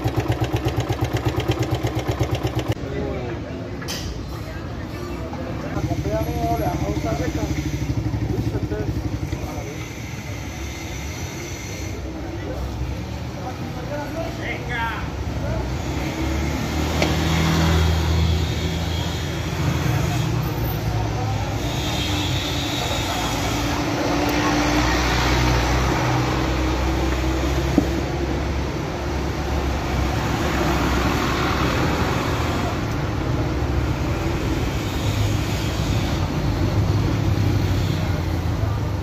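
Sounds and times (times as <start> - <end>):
vehicle engines rumbling: 0.0 - 39.0.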